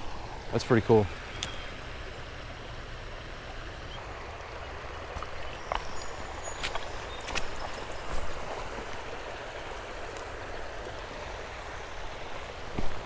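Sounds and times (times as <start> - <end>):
creek water flowing: 0.0 - 13.0.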